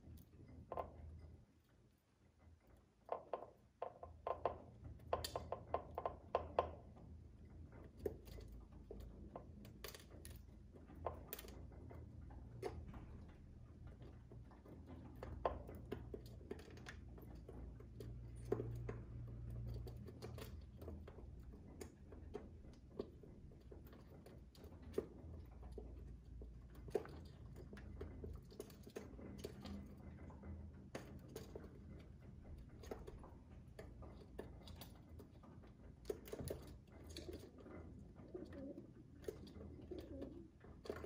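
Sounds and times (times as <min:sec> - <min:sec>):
pigeons pecking with beak taps: 0:02.8 - 0:41.0.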